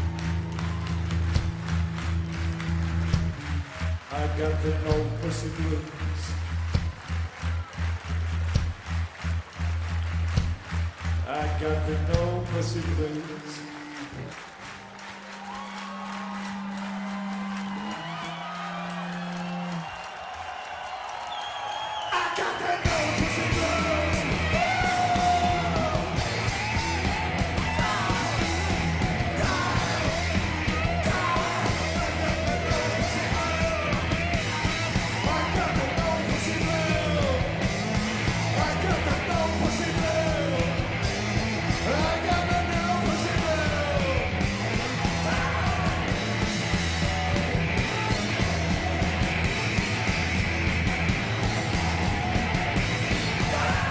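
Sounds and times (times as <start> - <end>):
rock band playing: 0.0 - 13.2, 22.2 - 53.9.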